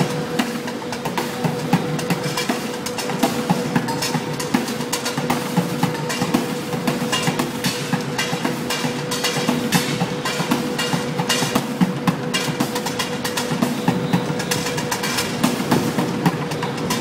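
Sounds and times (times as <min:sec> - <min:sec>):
drumming on buckets: 0:00.0 - 0:17.0
steady hum: 0:00.0 - 0:17.0.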